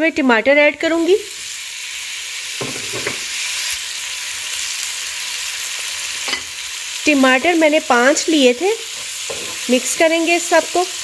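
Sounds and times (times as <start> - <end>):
tomatoes sizzling in hot oil: 0.0 - 11.0.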